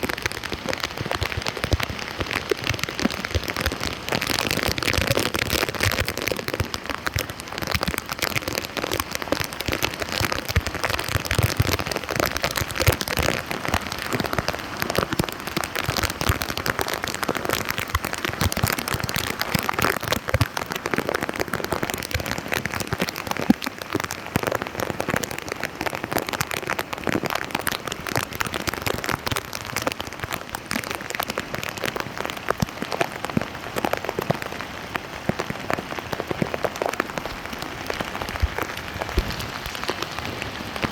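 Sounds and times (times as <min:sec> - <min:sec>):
rain on a flooded street: 0:00.0 - 0:40.9.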